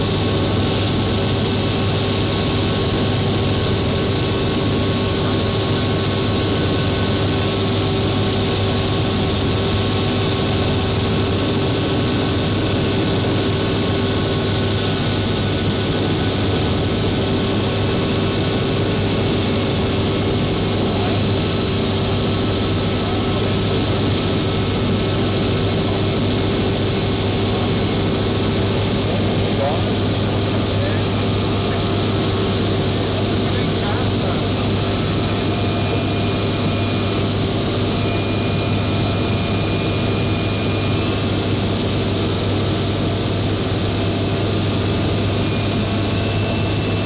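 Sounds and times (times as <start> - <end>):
helicopter in flight: 0.0 - 47.0.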